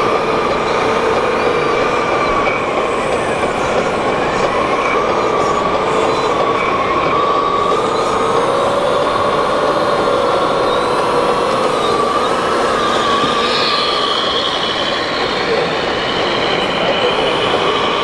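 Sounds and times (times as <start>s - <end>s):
model excavator motor whine: 0.0s - 16.0s.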